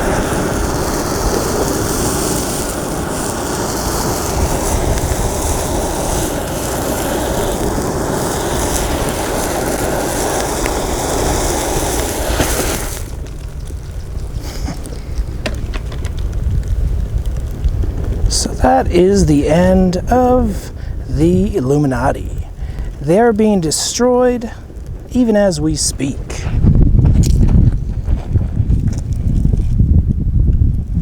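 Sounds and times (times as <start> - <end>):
fire rushing: 0.0 - 31.0
sharp crackles: 0.0 - 31.0
wind rumbling on microphone: 0.0 - 31.0.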